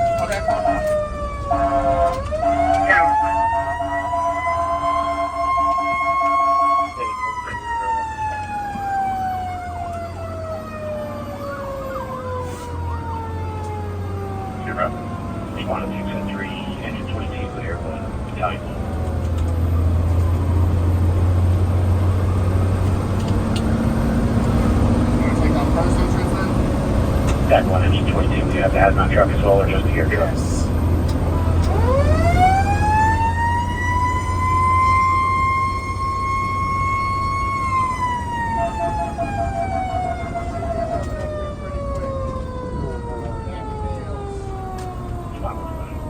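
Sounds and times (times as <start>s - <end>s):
mechanical siren winding down: 0.0s - 26.0s, 31.0s - 46.0s
fire engine engine and road noise: 0.0s - 46.0s.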